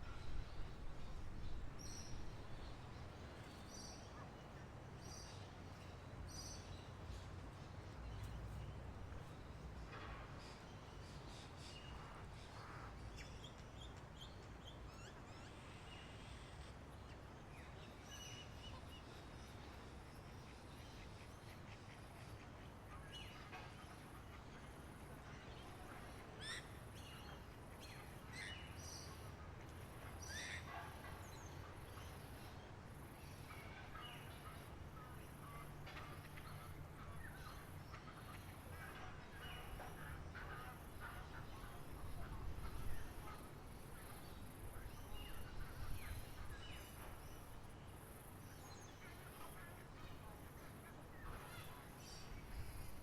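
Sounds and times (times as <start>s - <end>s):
wild birds chirping: 0.0s - 53.0s.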